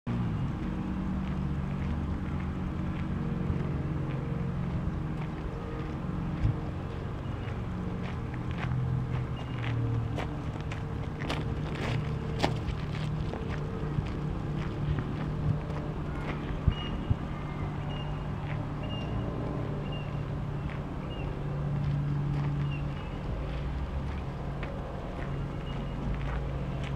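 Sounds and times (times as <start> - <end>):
low mechanical hum: 0.1 - 26.9.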